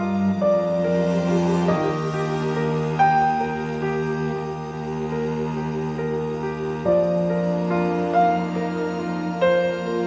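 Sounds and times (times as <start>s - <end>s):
slow instrumental music: 0.0s - 10.0s.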